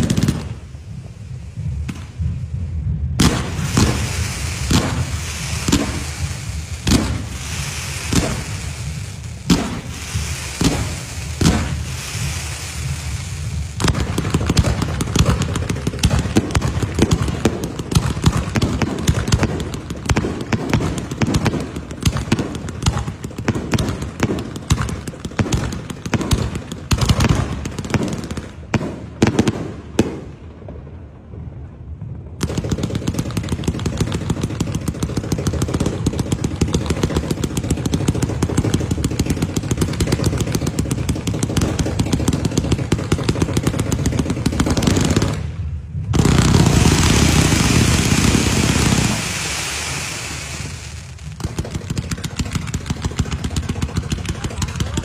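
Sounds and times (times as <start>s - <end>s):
firecrackers crackling: 0.0s - 55.0s
fireworks bangs: 0.0s - 55.0s.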